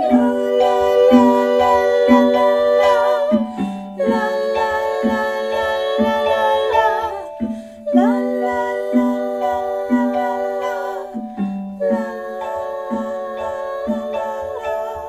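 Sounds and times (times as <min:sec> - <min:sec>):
plucked accompaniment: 0:00.0 - 0:15.0
women singing in harmony: 0:00.0 - 0:15.0.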